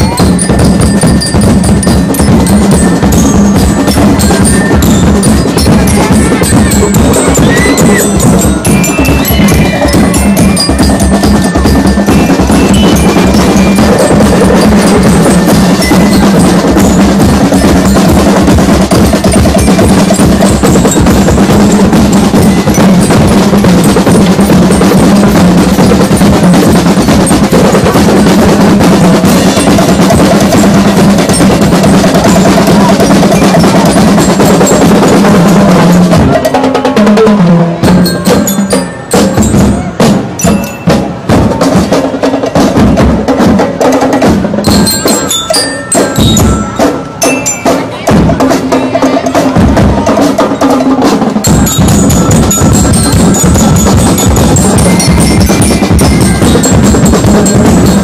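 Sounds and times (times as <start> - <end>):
drum and lyre band playing: 0.0 - 58.0
drum strokes: 0.0 - 58.0.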